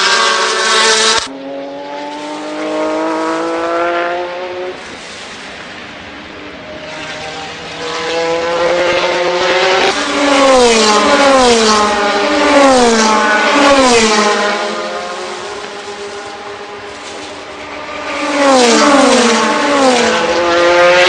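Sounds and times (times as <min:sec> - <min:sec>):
race car engines passing by: 0:00.0 - 0:21.0.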